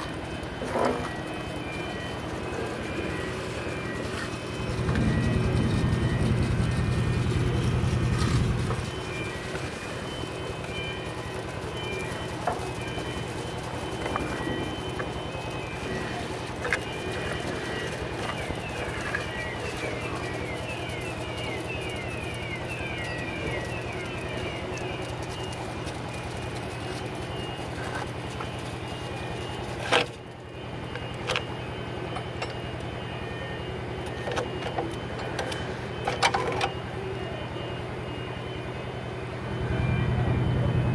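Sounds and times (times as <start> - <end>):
cement mixer engine drone: 0.0 - 40.9.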